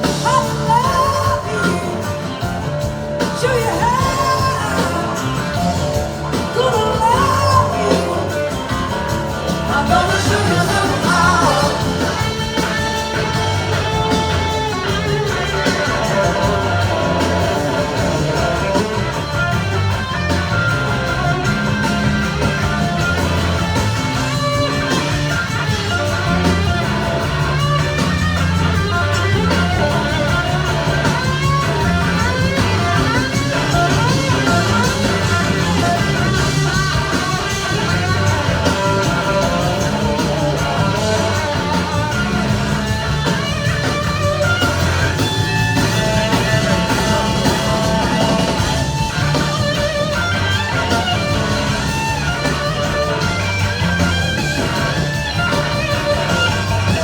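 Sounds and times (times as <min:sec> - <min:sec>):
bass guitar: 0:00.0 - 0:57.0
drums: 0:00.0 - 0:57.0
electric guitar bending notes: 0:07.2 - 0:57.0.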